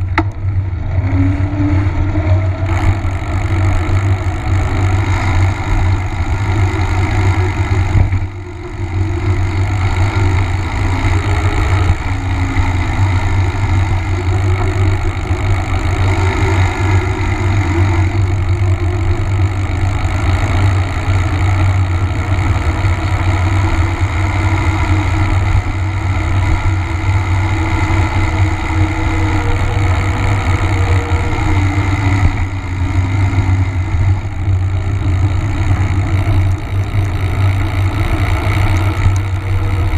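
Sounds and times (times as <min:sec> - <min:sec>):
bike tyres rolling on asphalt: 0:00.0 - 0:39.9.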